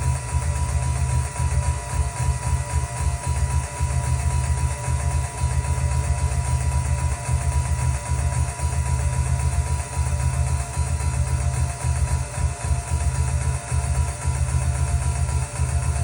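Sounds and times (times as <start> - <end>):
synthesizer train wheel imitation: 0.0 - 16.0.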